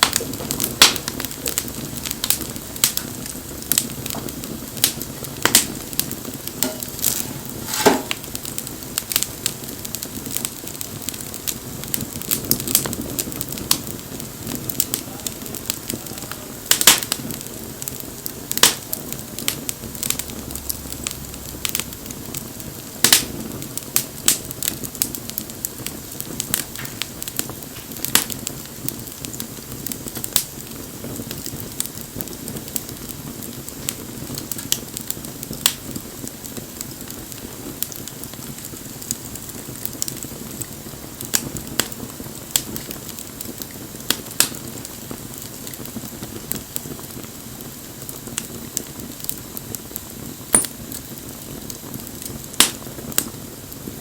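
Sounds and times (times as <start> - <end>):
bonfire popping and snapping: 0.0 - 54.0
low rush of flame: 0.0 - 54.0.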